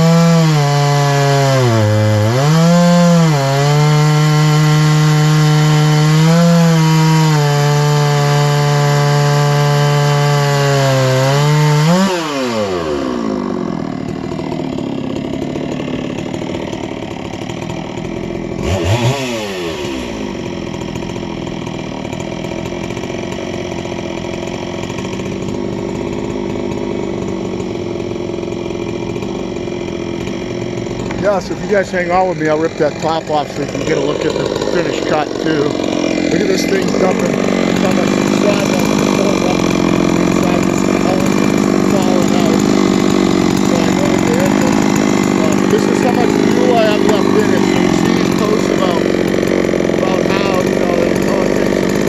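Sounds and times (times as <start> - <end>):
chainsaw cutting log: 0.0 - 52.0
chainsaw idling: 0.0 - 52.0.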